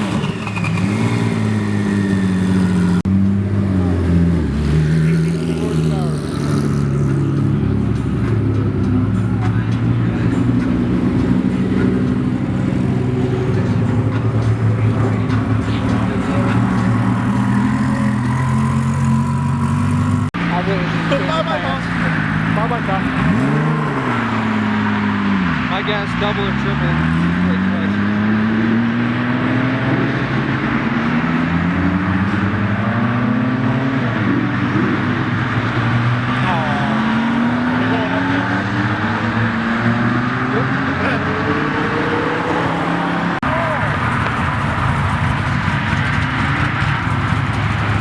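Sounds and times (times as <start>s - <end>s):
car engines accelerating: 0.0s - 48.0s.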